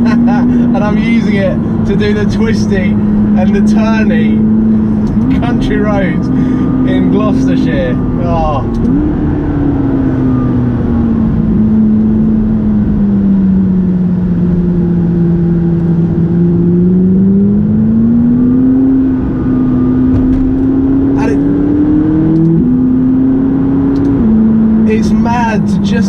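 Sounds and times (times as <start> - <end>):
car engine while driving: 0.0 - 26.0.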